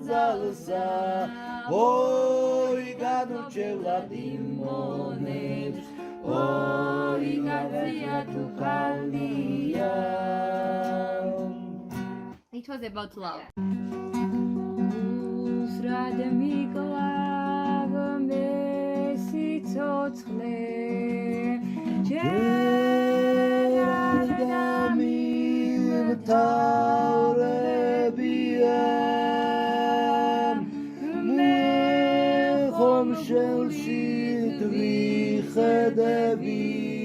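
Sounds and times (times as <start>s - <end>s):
folk singing with held notes: 0.0s - 11.8s, 14.8s - 37.0s
plucked string accompaniment: 0.0s - 12.4s, 13.6s - 37.0s.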